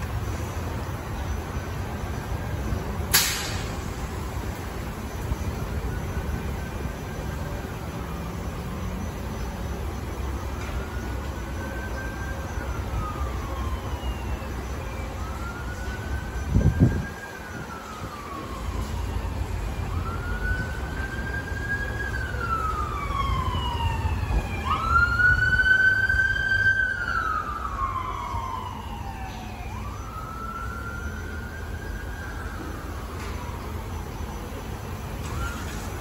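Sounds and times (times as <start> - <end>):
siren wailing: 0.0 - 36.0.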